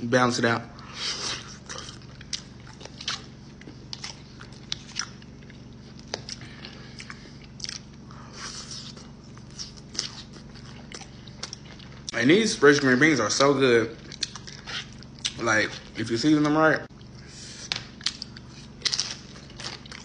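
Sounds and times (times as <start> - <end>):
person chewing: 0.8 - 12.8, 14.0 - 16.0, 16.9 - 20.0.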